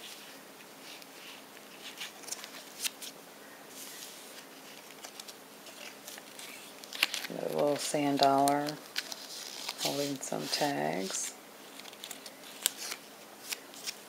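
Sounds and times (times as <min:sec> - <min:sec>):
faint steady hum: 0:00.0 - 0:14.0
paper rustling and pages turning: 0:00.0 - 0:14.0.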